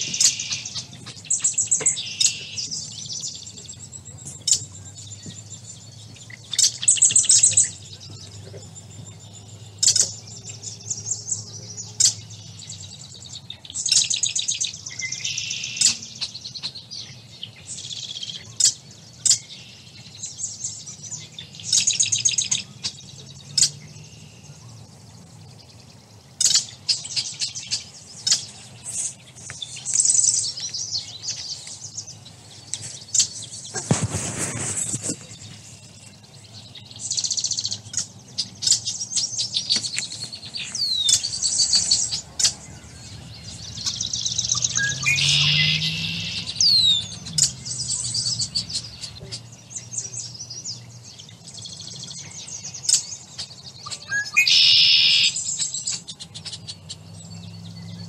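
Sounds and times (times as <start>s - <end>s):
songbirds trilling and chirping: 0.0s - 58.0s.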